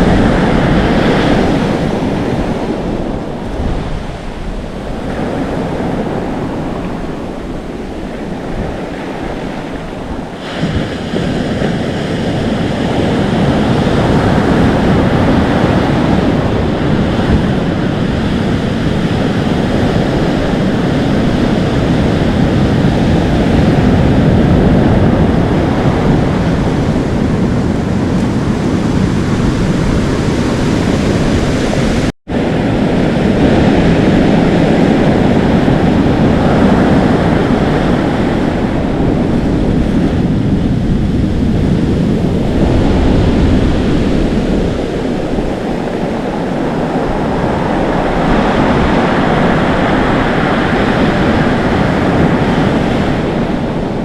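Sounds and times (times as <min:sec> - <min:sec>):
surf washing on shore: 0:00.0 - 0:54.0
wind buffeting microphone: 0:00.0 - 0:54.0.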